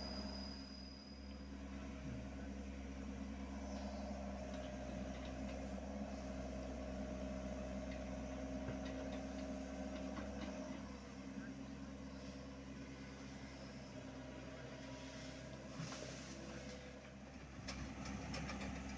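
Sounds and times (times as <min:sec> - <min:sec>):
high hydraulic whine: 0:00.0 - 0:17.0
excavator diesel engine running: 0:00.0 - 0:18.9.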